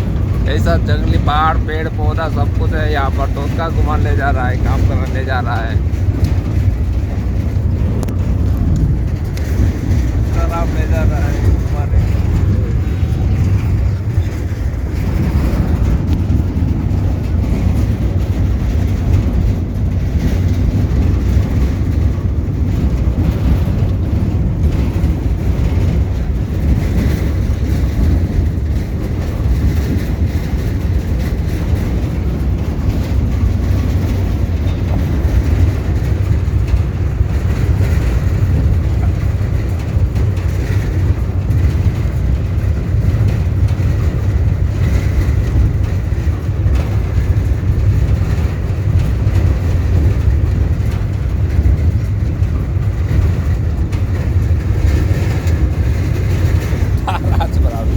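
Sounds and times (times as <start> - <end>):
rattling over rough road: 0.0 - 57.9
truck engine and road rumble: 0.0 - 57.9.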